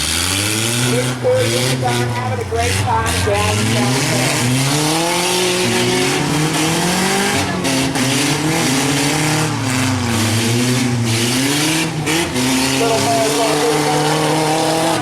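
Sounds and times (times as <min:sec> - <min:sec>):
engines revving hard: 0:00.0 - 0:15.0.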